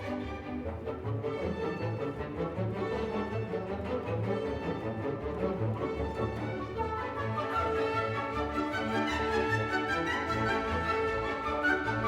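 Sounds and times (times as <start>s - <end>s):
orchestral music with strings: 0.0s - 12.0s.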